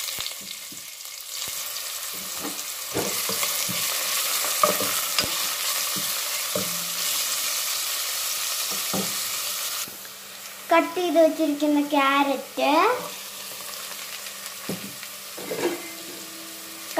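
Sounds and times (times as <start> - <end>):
onions sizzling in hot oil: 0.0 - 16.9.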